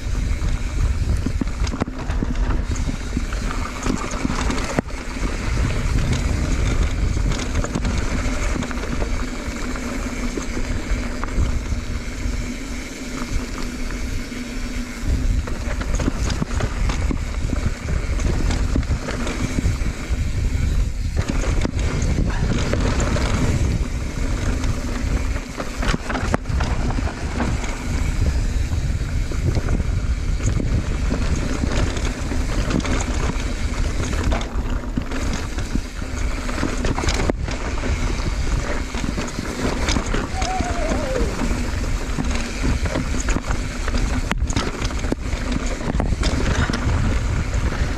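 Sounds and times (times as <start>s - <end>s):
tyres rumbling over dirt: 0.0s - 47.9s
wind buffeting microphone: 0.0s - 47.9s.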